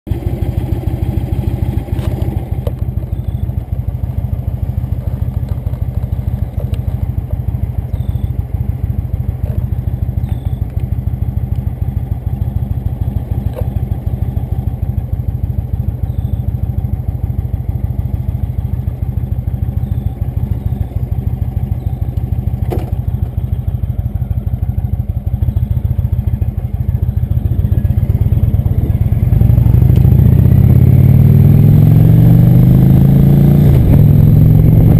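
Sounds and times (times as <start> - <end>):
motorcycle engine idling: 0.1 - 32.9.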